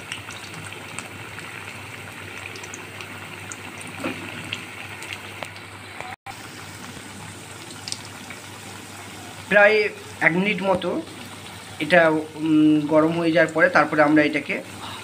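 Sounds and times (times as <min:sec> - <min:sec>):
fritters sizzling in oil: 0:00.0 - 0:15.0.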